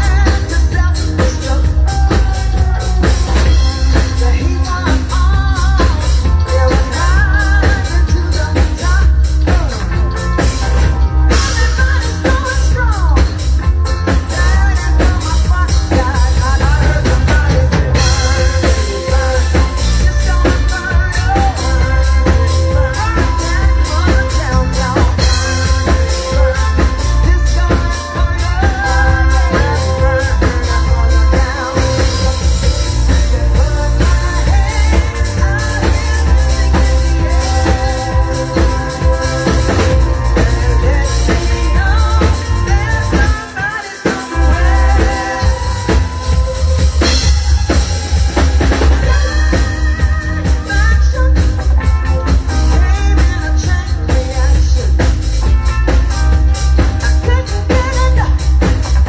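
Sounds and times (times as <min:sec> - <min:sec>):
drum kit beat: 0:00.0 - 0:59.0
live band playing: 0:00.0 - 0:59.0.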